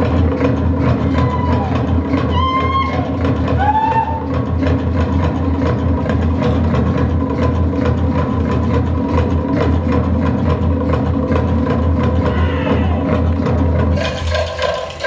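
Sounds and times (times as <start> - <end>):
heavy low rumble: 0.0 - 14.6
drums playing a fast beat: 0.0 - 15.0.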